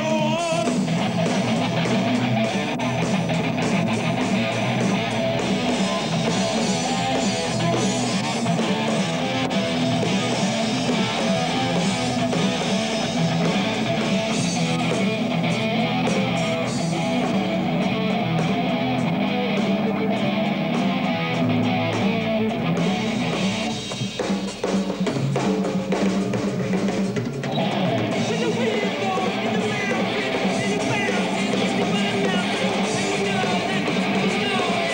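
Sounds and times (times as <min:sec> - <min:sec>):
bass guitar: 0:00.0 - 0:34.9
drum kit beat: 0:00.0 - 0:34.9
electric guitar: 0:00.0 - 0:34.9.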